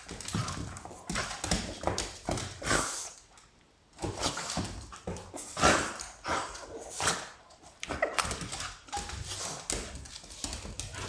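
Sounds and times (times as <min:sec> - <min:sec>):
dogs scuffling: 0:00.0 - 0:03.3, 0:04.0 - 0:11.0.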